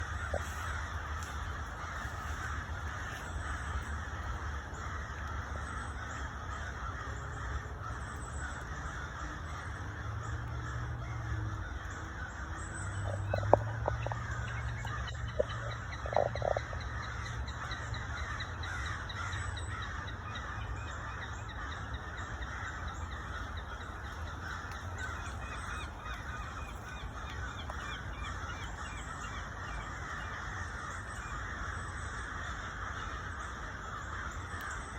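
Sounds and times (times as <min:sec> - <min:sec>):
flock of birds calling: 0:00.0 - 0:34.9.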